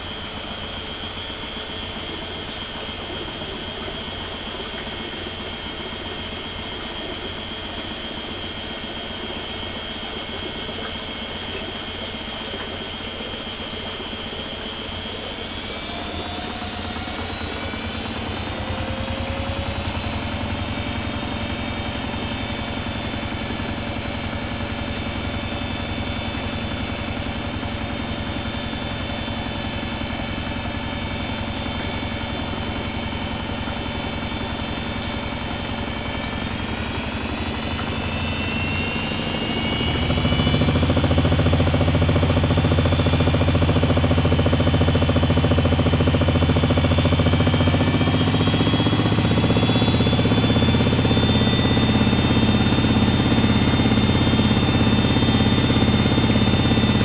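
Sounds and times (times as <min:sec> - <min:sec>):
washing machine motor whining: 0:00.0 - 0:57.0.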